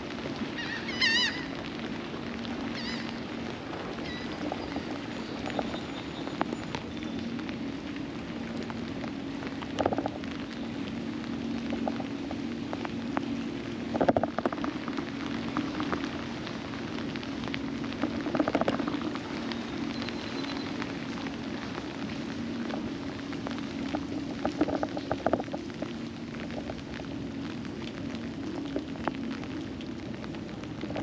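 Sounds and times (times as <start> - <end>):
constant low hum: 0.0 - 31.0
steady rain: 0.0 - 31.0.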